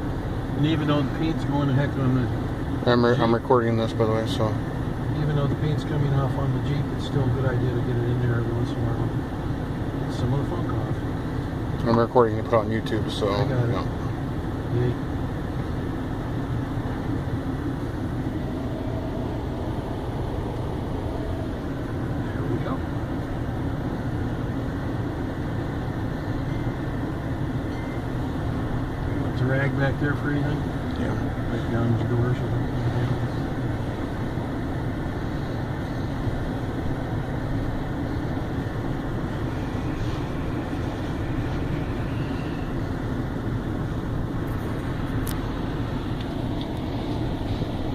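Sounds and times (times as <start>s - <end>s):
car wash rumble and hiss: 0.0s - 47.9s.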